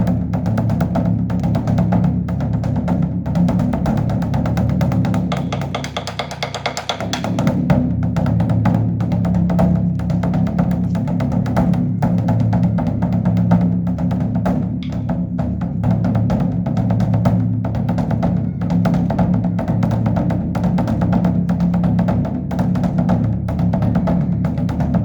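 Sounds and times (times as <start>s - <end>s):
temple drum beaten rapidly: 0.0s - 25.0s.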